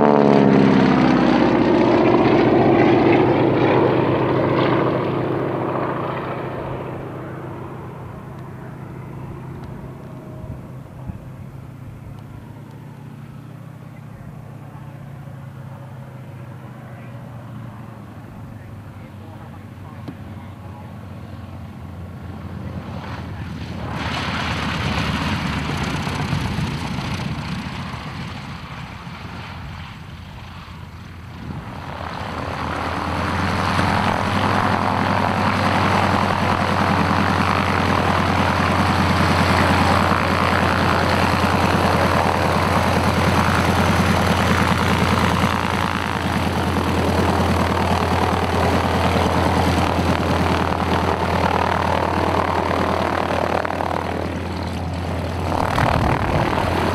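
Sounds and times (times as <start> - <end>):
radial aircraft engine running: 0.0 - 56.9.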